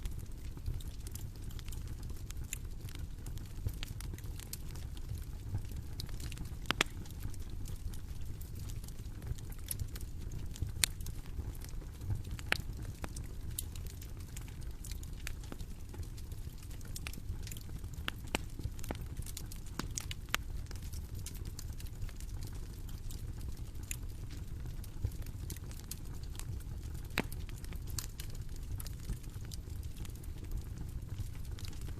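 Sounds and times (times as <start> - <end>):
burning wood crackling and popping: 0.0 - 31.9
low rumble of flames: 0.0 - 31.9.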